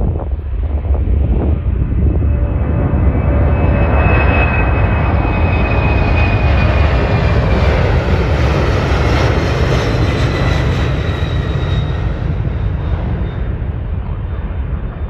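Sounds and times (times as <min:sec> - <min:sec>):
jet engines roaring with whine: 0:00.0 - 0:15.0.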